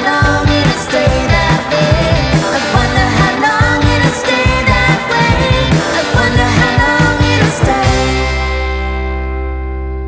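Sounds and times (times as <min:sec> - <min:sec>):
background music with beat and bass: 0:00.0 - 0:09.4.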